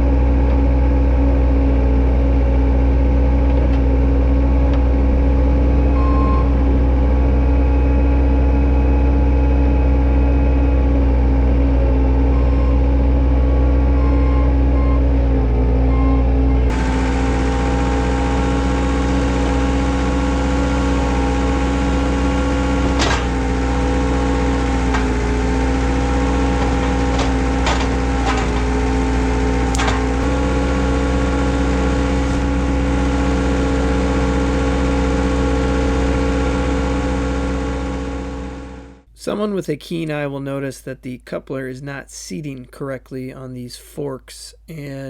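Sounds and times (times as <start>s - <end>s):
skid steer engine running: 0.0s - 39.1s.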